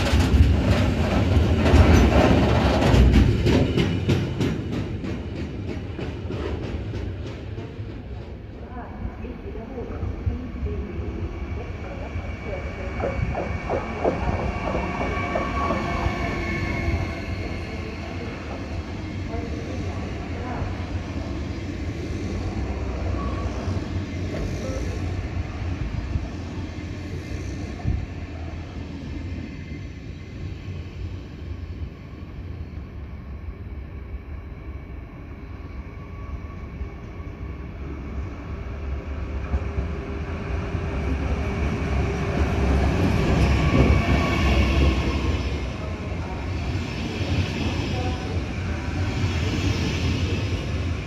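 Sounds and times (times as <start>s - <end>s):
high train whine: 0.0s - 51.0s
train rumble: 0.0s - 51.0s.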